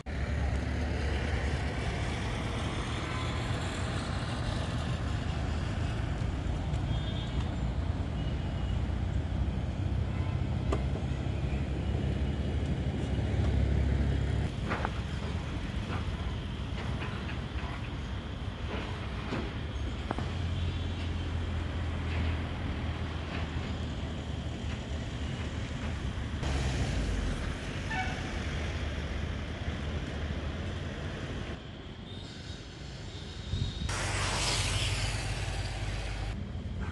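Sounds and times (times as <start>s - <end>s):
cars and bus passing: 0.0s - 36.9s
low traffic rumble: 0.0s - 36.9s.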